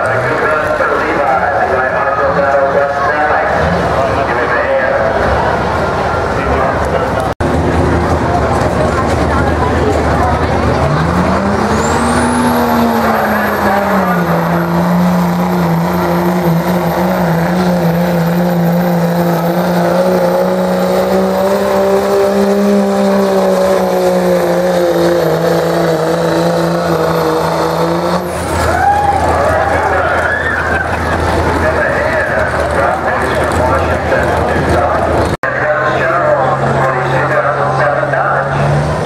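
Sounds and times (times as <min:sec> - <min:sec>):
diesel engine at high revs: 0:00.0 - 0:39.0.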